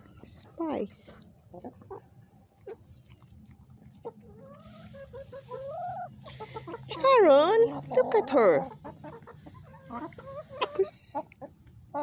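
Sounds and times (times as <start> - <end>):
chickens feeding: 0.0 - 12.0.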